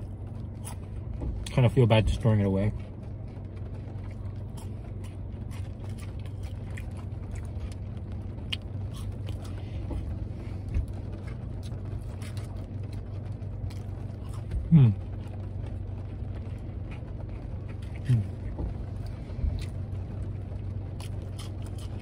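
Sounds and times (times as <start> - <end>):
car cabin hum: 0.0 - 22.0
chewing crispy fries: 0.0 - 22.0.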